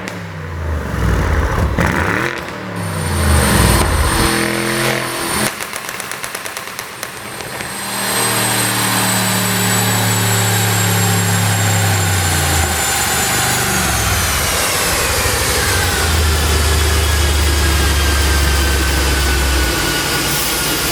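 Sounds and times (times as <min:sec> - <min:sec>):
car engine running: 0:00.0 - 0:20.9
high whine falling in pitch: 0:00.8 - 0:05.8, 0:06.9 - 0:20.9.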